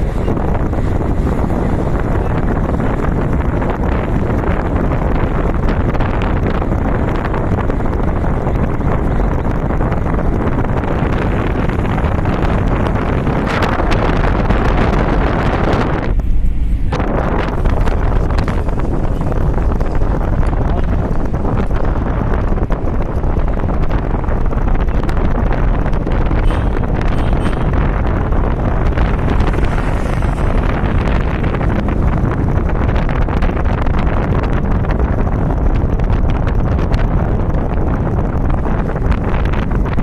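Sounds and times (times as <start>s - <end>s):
low rumble: 0.0s - 40.0s
wind buffeting microphone: 0.0s - 40.0s.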